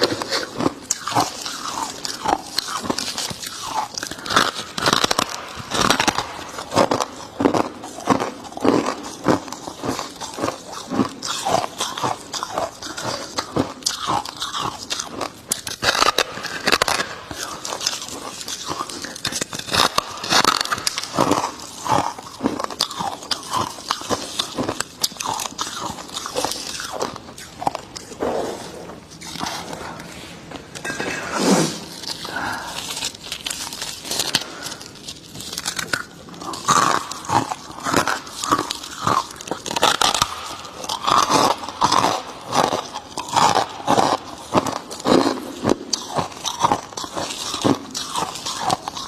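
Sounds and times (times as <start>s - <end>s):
chewing crunchy frost: 0.0s - 49.0s.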